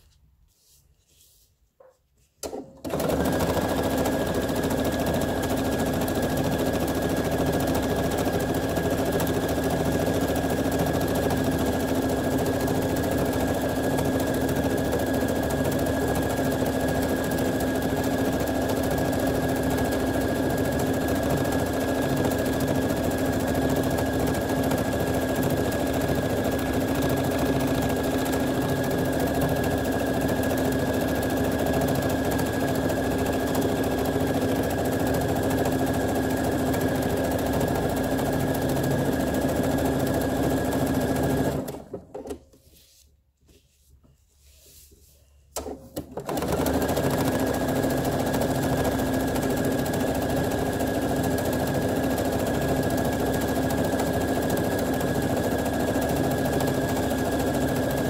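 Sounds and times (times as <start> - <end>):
sewing machine running: 2.8 - 42.0, 45.6 - 58.0.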